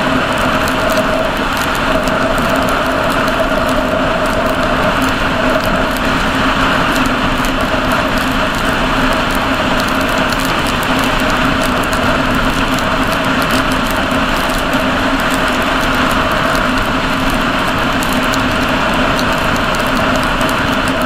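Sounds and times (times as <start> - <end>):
motorcycle engine drone: 0.0 - 21.0
tyre noise on wet road: 0.0 - 21.0
wind noise: 0.0 - 21.0.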